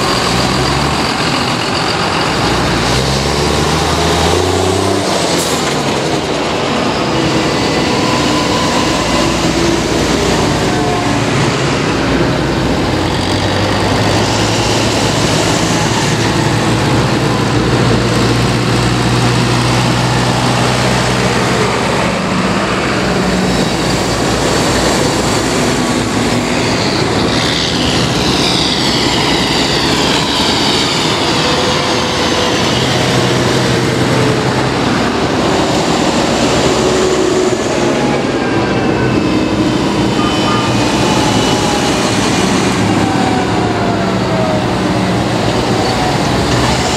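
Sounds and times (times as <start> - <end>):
high whine sweeping down: 0.0 - 46.9
tractors driving past: 0.0 - 46.9.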